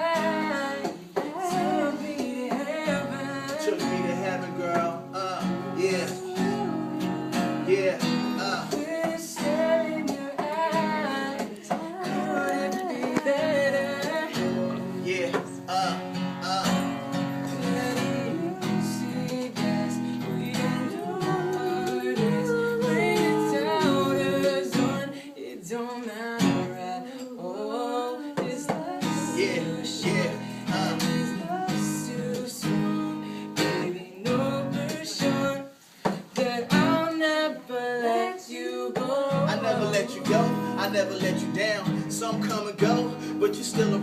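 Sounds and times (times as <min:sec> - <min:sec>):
person singing r and b style: 0:00.0 - 0:44.0
strummed acoustic guitar: 0:00.0 - 0:44.0.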